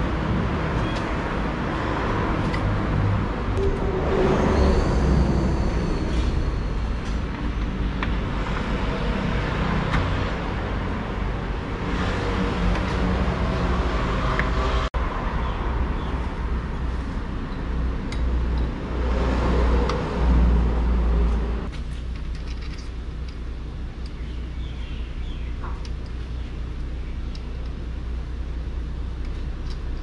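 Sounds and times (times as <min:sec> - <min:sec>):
low rumble of road traffic: 0:00.0 - 0:30.0.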